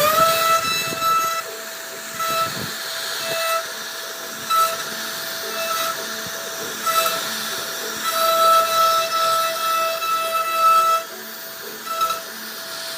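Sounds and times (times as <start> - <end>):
hissing cutting noise: 0.0 - 12.9
router spindle whine: 0.0 - 12.9.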